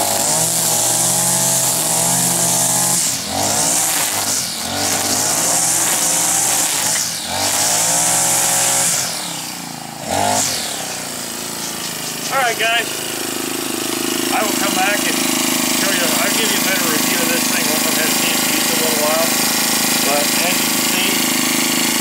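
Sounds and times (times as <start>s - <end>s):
string trimmer cutting grass: 0.0s - 22.0s.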